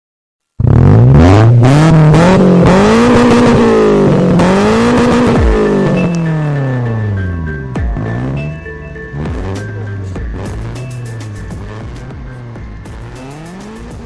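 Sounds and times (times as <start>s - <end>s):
car engine revving: 0.6s - 14.0s.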